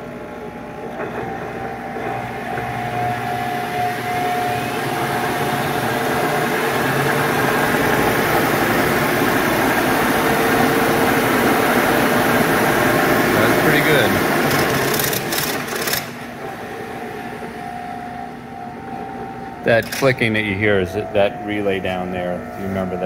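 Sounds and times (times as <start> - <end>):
faint rising whine: 0.0 - 14.3, 16.2 - 23.0
lathe spindle running: 0.0 - 23.0.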